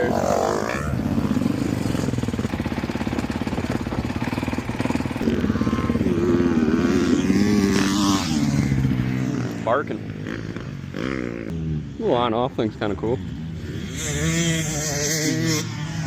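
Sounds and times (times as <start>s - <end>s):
motorbike engine revving: 0.0s - 12.2s, 13.2s - 16.0s.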